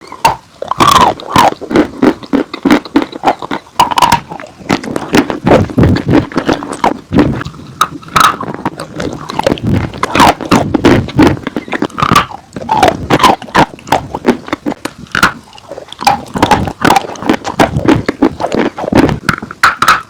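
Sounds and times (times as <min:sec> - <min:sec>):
chewing crunchy chalk: 0:00.1 - 0:20.0.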